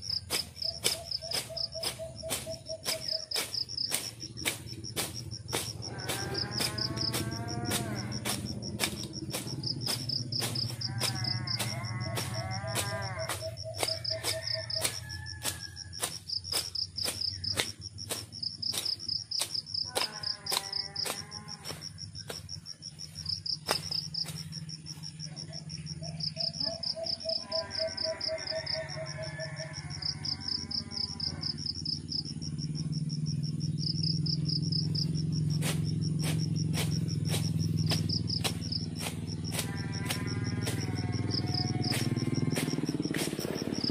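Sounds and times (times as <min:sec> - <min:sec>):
insects trilling: 0:00.0 - 0:43.9.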